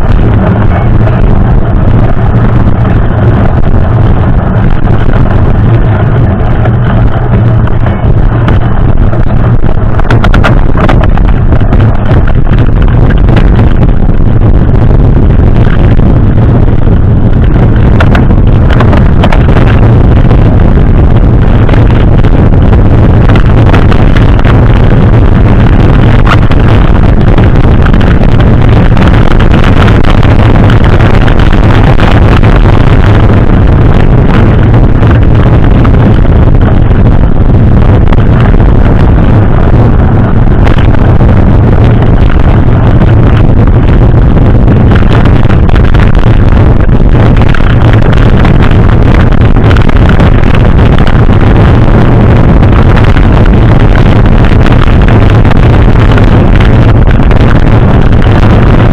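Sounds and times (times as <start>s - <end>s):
wind buffeting on microphone: 0.0s - 58.9s.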